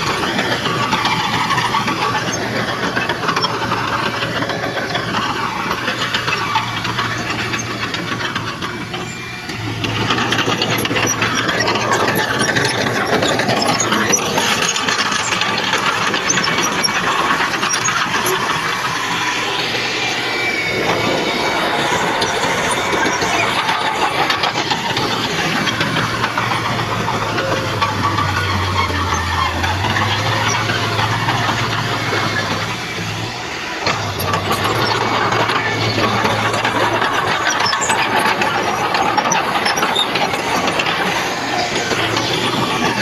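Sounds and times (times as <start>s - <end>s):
diesel engine working: 0.0s - 43.0s
mechanical rattling: 0.0s - 43.0s.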